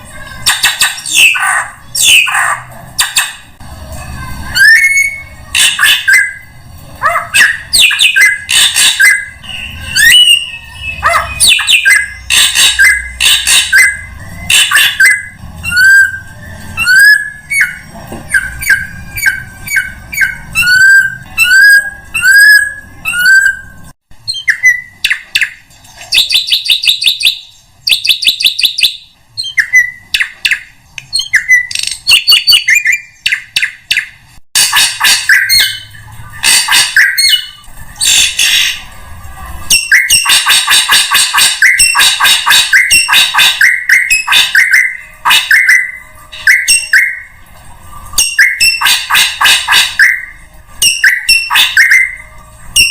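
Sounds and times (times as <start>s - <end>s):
bird harsh rasping calls: 0.0s - 3.6s, 4.4s - 30.6s, 31.2s - 39.0s, 39.6s - 47.4s, 48.2s - 52.9s
bird buzzy chattering: 0.0s - 47.4s, 48.0s - 52.9s.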